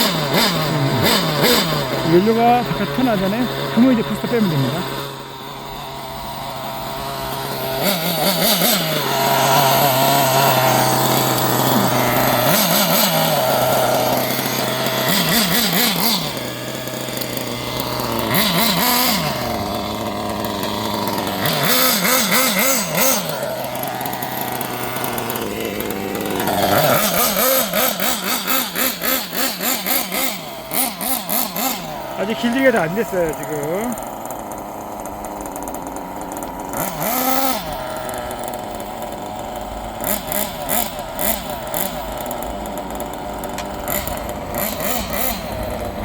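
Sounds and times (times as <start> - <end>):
small engine idling and revving: 0.0 - 46.0.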